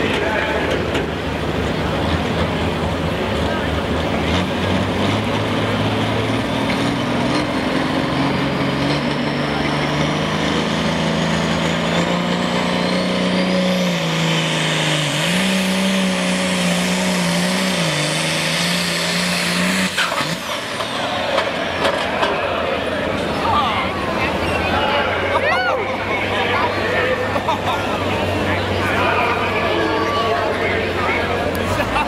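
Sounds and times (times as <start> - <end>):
tractor diesel engine at high revs: 0.0 - 32.0.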